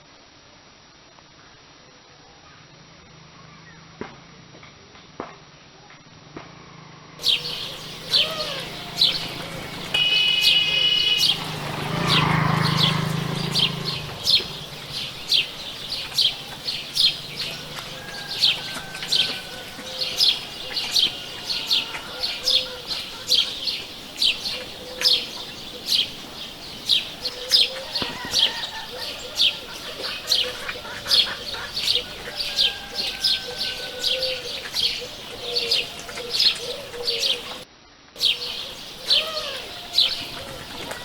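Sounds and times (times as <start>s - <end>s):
bird chirping: 7.2s - 41.0s
other birds calling: 7.2s - 41.0s.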